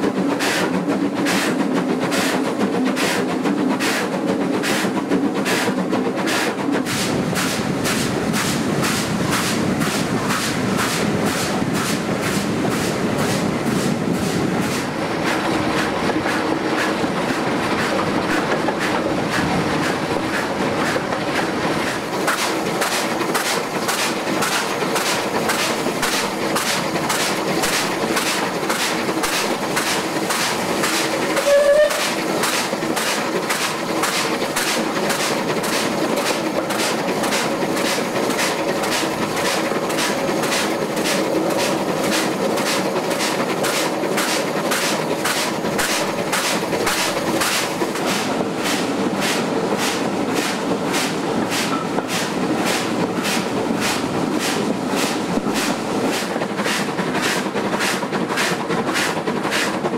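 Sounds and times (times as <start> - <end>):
steam locomotive beat: 0.0 - 59.9
train wheels on rails: 0.0 - 59.9.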